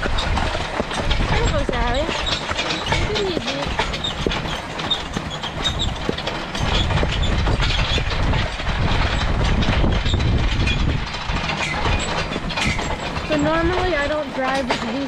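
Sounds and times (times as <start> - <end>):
metal track scraping along ground: 0.0 - 15.0.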